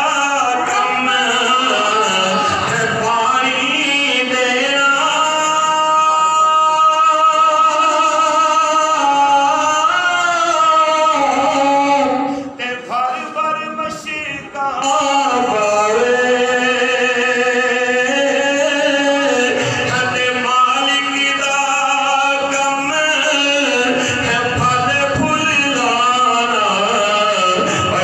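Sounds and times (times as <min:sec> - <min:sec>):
man singing into microphone: 0:00.0 - 0:28.0.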